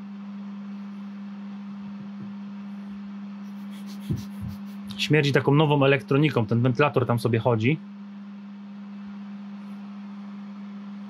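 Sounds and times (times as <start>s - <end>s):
cooling fan humming: 0.0s - 11.0s.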